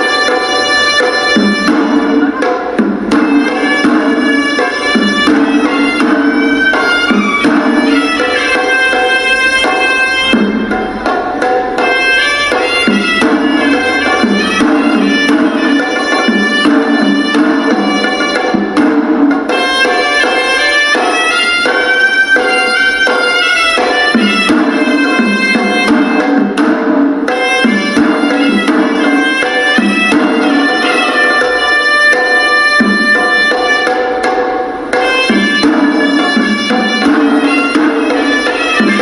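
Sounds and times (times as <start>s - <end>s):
reed pipe melody: 0.0s - 39.0s
steady drumming: 0.0s - 39.0s.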